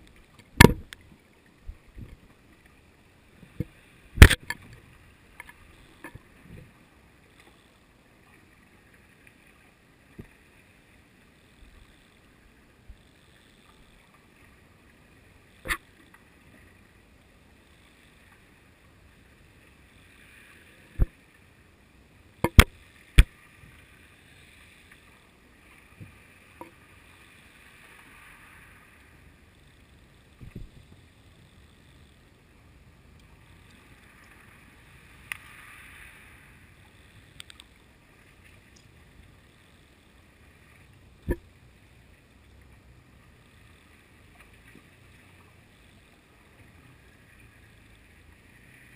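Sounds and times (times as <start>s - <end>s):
faint underwater hiss: 0.0s - 48.9s.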